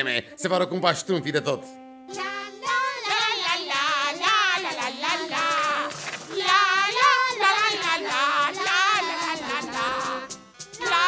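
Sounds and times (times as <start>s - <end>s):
instrumental backing music: 0.0s - 11.0s
high-pitched cartoon voices singing: 2.1s - 11.0s.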